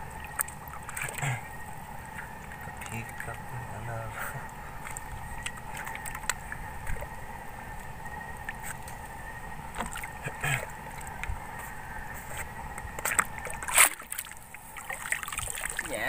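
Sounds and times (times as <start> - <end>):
water lapping against a boat: 0.0 - 16.0.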